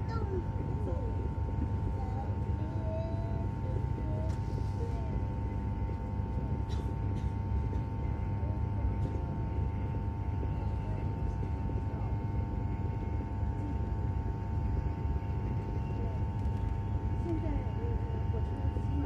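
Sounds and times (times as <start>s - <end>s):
constant hum: 0.0s - 19.0s
train rumble inside carriage: 0.0s - 19.0s.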